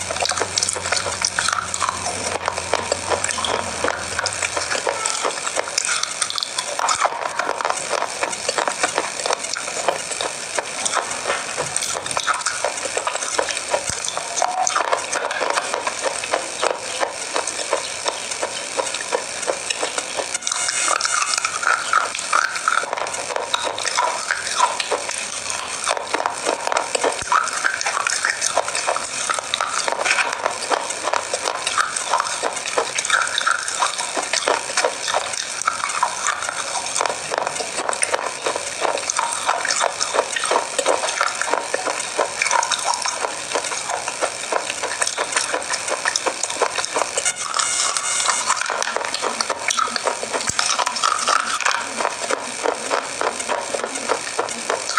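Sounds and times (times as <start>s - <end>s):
crunchy biscuit chewing: 0.0s - 54.9s.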